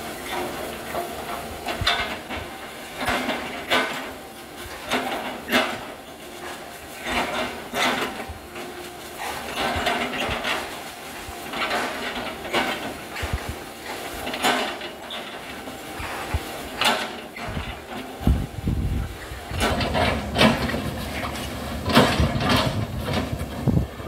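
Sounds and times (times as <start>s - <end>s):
excavator crunching and clacking: 0.0s - 24.0s.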